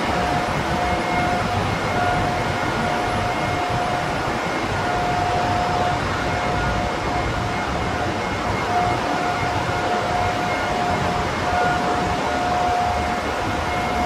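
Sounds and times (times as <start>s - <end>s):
engine room machinery roar: 0.0s - 14.0s
high machinery whine: 0.0s - 14.0s.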